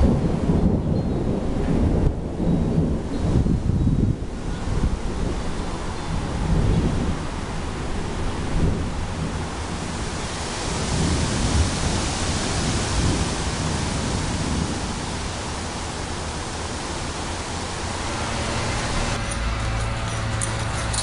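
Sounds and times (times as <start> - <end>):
thunder rumbling: 0.0 - 19.3
steady rushing hiss: 0.0 - 21.0.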